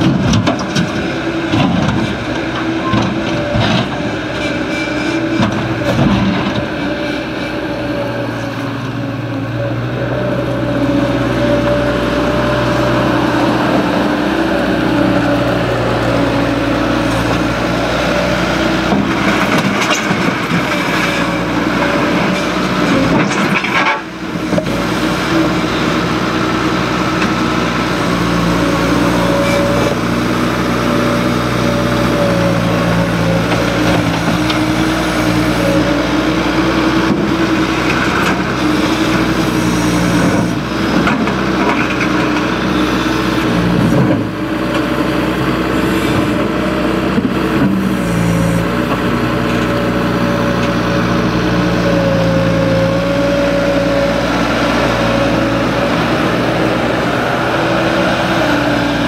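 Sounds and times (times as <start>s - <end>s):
diesel loader engine running: 0.0s - 59.0s.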